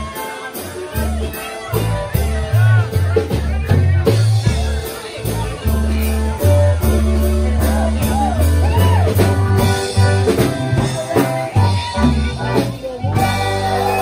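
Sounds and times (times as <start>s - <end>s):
bass line: 0.0s - 14.0s
drum beat: 0.0s - 14.0s.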